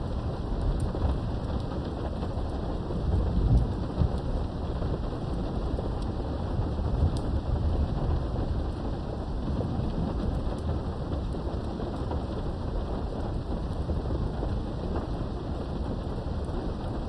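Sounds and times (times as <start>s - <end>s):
rain through a window: 0.0s - 17.0s.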